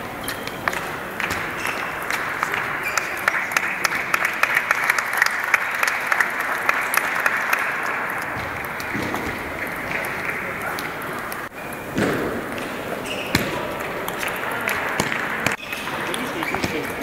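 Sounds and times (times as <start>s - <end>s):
audience applauding: 0.6s - 11.5s, 13.7s - 17.0s.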